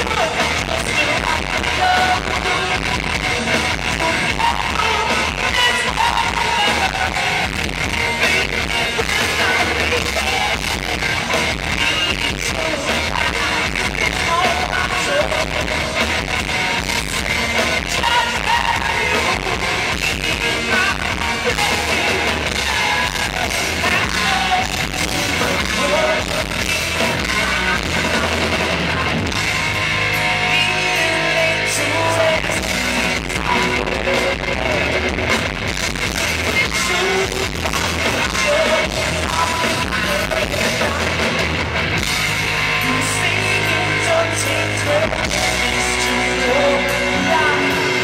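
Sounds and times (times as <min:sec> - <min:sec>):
distorted electric guitar: 0:00.0 - 0:48.0
rock band playing live: 0:00.0 - 0:48.0.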